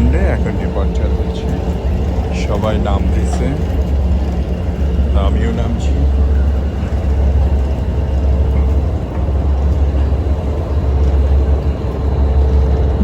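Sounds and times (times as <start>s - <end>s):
ferry engines droning: 0.0s - 13.0s.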